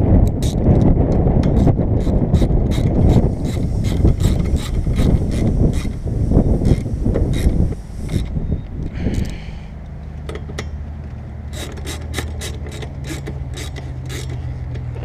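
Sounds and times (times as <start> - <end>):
low rumble: 0.0 - 15.0
hand ratchet clicking: 0.2 - 6.0, 6.6 - 9.4, 11.5 - 15.0.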